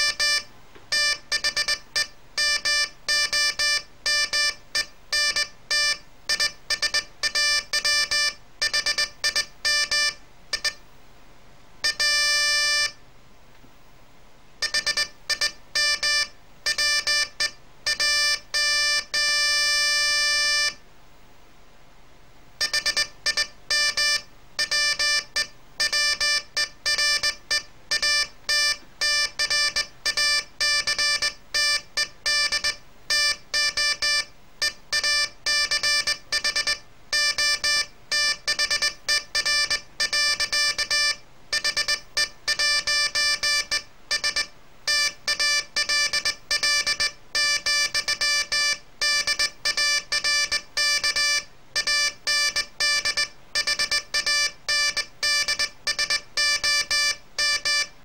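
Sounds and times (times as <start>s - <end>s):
morse code buzzy tone: 0.0s - 10.8s, 11.8s - 13.0s, 14.6s - 20.8s, 22.6s - 58.0s.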